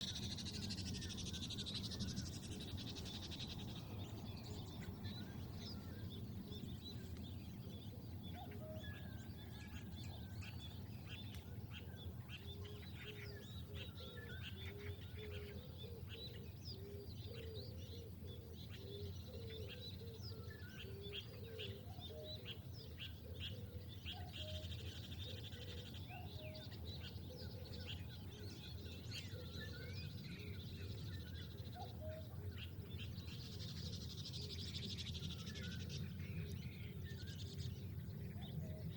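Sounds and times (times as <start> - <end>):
birds chirping: 0.0 - 38.9
lower repeated bird calls: 0.0 - 38.9.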